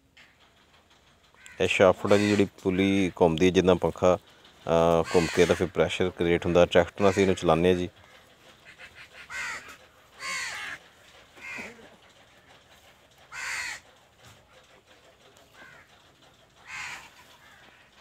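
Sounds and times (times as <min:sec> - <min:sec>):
harsh bird calls: 0:00.2 - 0:18.0.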